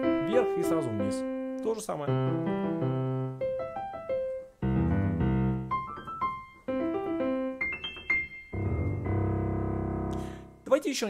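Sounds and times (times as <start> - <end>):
piano arpeggios: 0.0 - 10.7
piano chords ringing: 0.0 - 10.8.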